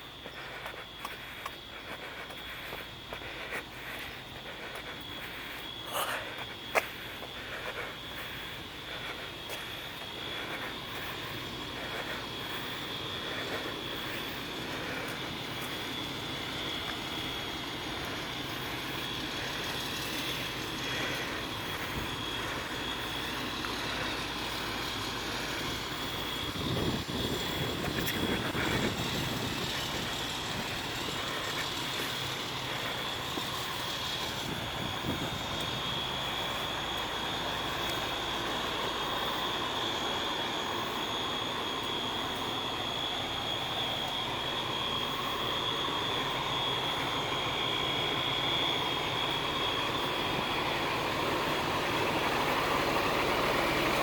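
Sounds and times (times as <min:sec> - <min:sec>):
diesel engine drone: 0:00.0 - 0:54.0
steady high whine: 0:00.0 - 0:54.0.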